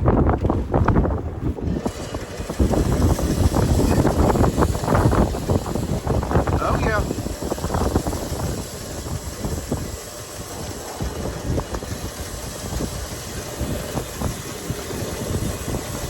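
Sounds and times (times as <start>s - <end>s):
truck engine heard from cab: 1.5s - 16.0s.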